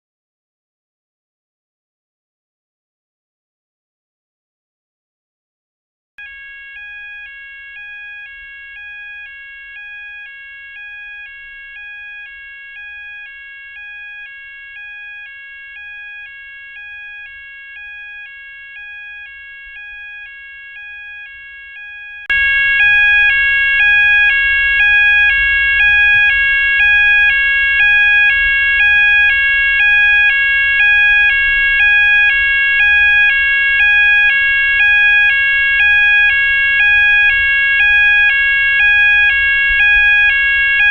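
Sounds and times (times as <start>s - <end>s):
fire alarm tone: 6.2s - 40.9s.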